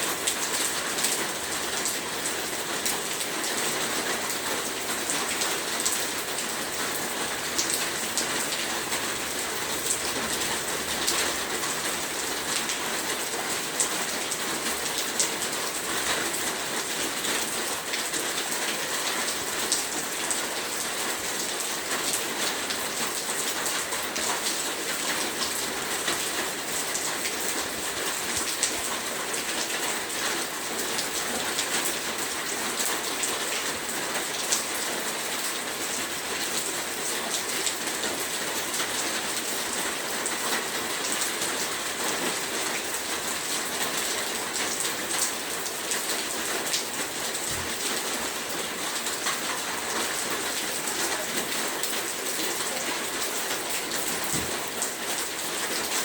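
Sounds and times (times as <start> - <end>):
raindrops pattering on hard surface: 0.1 - 56.0.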